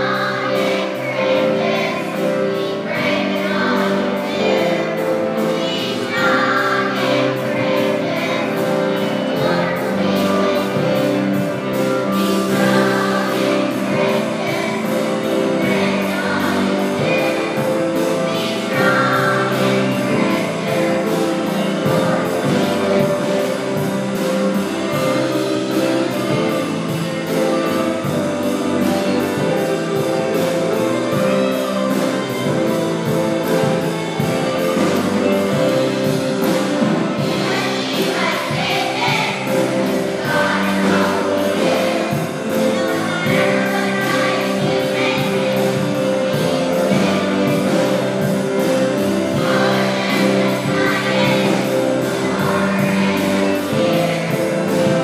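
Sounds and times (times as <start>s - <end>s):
children's choir singing: 0.0s - 55.0s
instrumental accompaniment: 0.0s - 55.0s.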